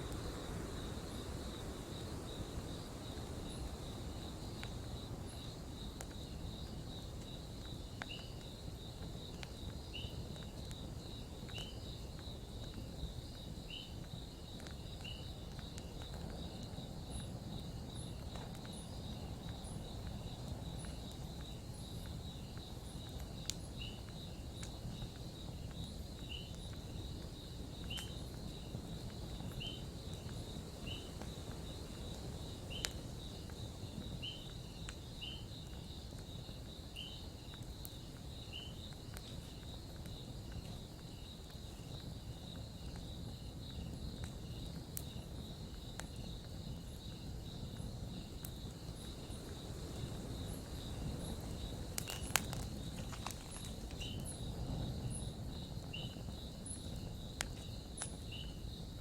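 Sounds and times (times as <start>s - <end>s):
campfire crackling and popping: 0.0s - 59.0s
insects trilling: 0.0s - 59.0s.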